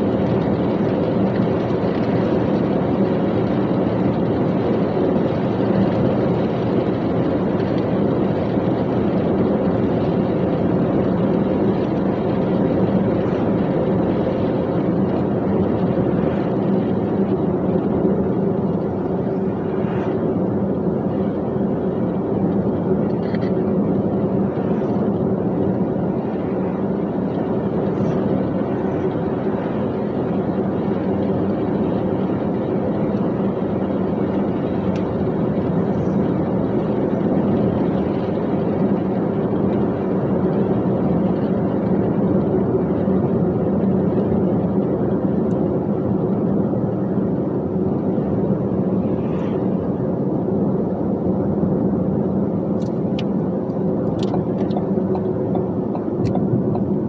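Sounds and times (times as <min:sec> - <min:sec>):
road noise: 0:00.0 - 0:57.0
truck engine droning: 0:00.0 - 0:57.0.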